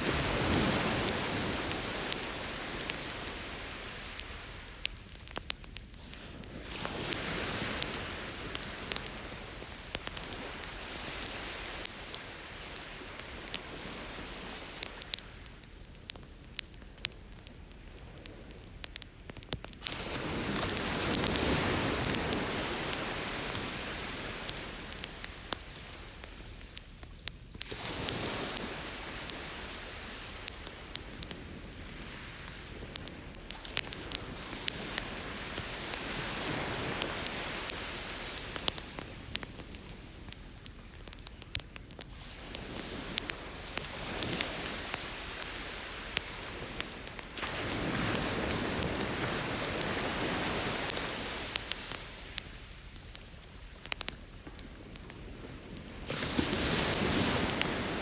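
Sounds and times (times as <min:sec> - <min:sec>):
ocean waves washing ashore: 0:00.0 - 0:05.4, 0:06.0 - 0:15.5, 0:19.8 - 0:26.6, 0:27.6 - 0:58.0
campfire crackling and popping: 0:00.0 - 0:58.0.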